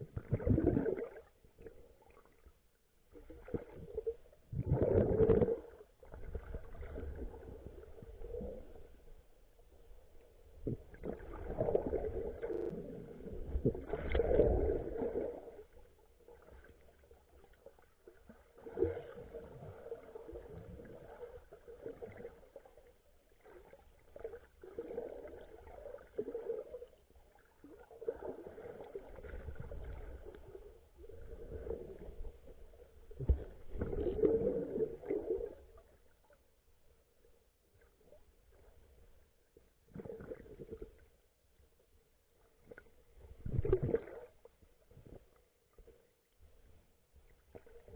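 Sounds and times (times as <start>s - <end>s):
underwater gurgling: 0.0s - 36.4s, 39.6s - 41.3s, 42.5s - 46.1s.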